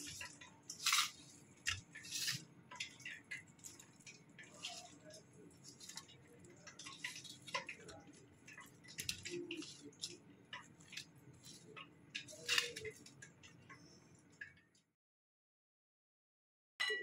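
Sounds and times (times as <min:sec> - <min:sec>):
wet squishes of mixing by hand: 0:00.0 - 0:14.8.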